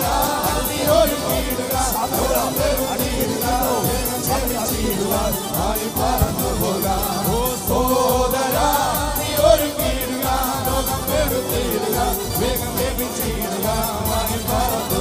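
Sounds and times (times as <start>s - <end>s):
instrumental backing with steady beat: 0.0s - 15.0s
men singing a worship song: 0.0s - 15.0s.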